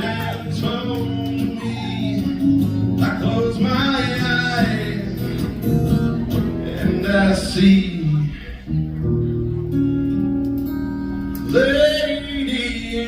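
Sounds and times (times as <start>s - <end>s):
live country music: 0.0s - 13.0s
strummed guitar: 0.0s - 13.0s.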